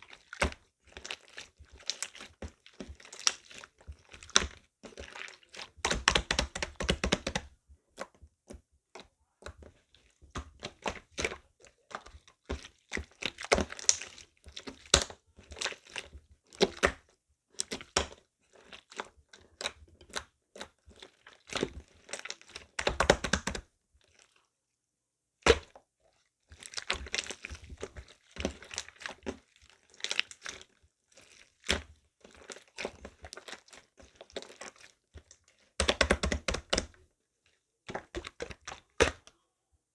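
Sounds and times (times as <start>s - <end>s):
hands kneading slime: 0.0s - 24.4s, 26.4s - 39.6s.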